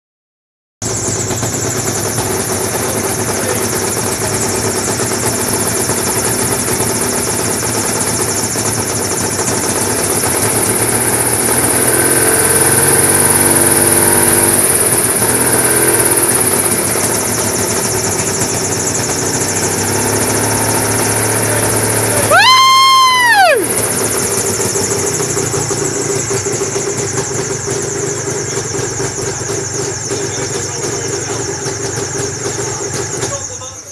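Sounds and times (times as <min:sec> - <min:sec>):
gyrocopter engine and propeller running: 0:00.8 - 0:33.9.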